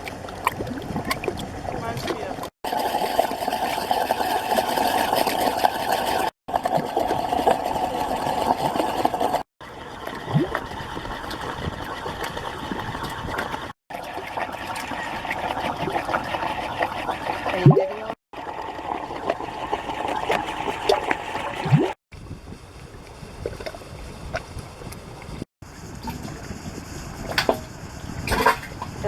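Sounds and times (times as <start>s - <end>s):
mud pots bubbling and popping: 0.0s - 29.0s.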